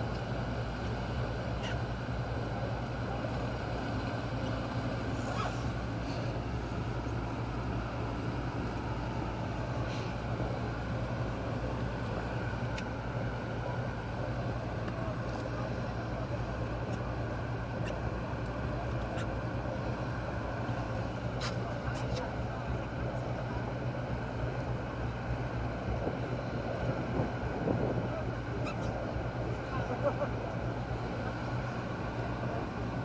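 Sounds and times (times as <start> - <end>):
boat engines droning: 0.0 - 33.0
rush of wind and water: 0.0 - 33.0.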